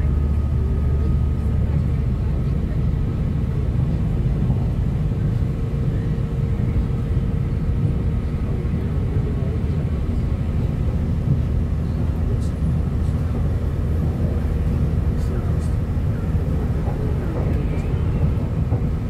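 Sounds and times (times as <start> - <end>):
train rumble inside carriage: 0.0 - 19.0.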